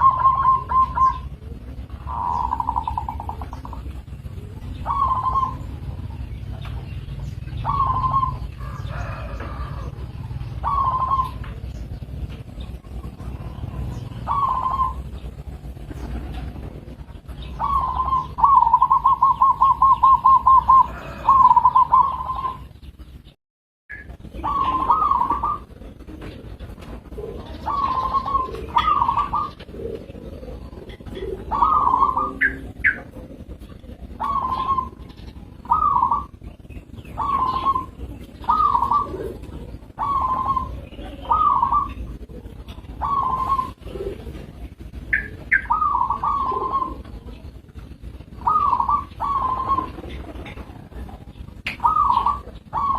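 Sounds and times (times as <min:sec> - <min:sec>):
dove cooing: 0:00.0 - 0:23.1, 0:23.9 - 0:52.9.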